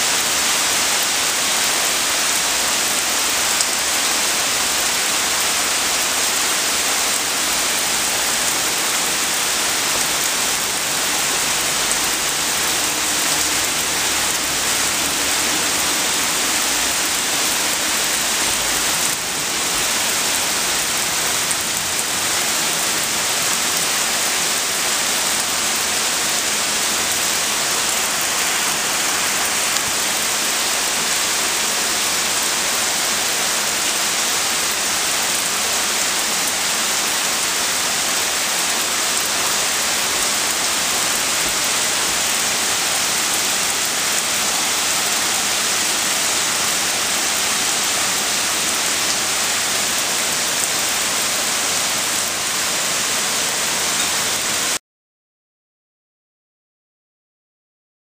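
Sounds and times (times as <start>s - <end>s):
rain falling on pavement: 0.0s - 54.8s.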